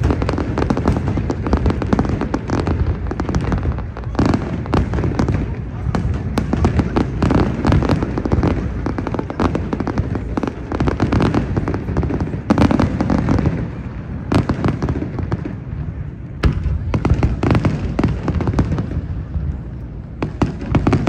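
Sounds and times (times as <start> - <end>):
fireworks pops and crackles: 0.0 - 21.0
loud fireworks bangs: 0.0 - 21.0.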